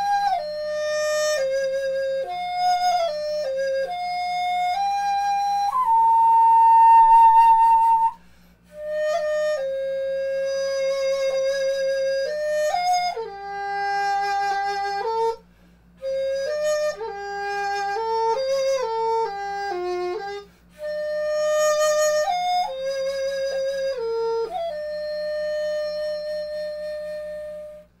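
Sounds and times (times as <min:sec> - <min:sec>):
flute-like solo melody: 0:00.0 - 0:15.4, 0:16.0 - 0:28.0.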